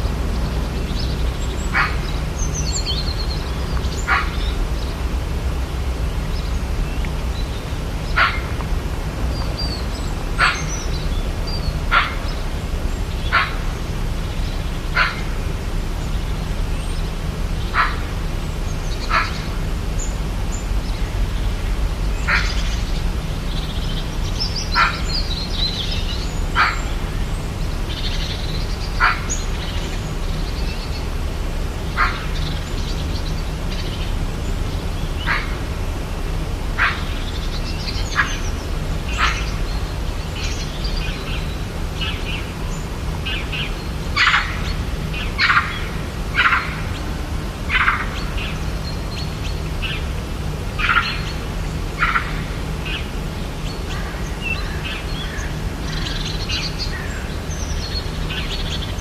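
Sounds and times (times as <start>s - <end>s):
birds giving sharp calls: 0.0s - 59.0s
steady low background noise: 0.0s - 59.0s.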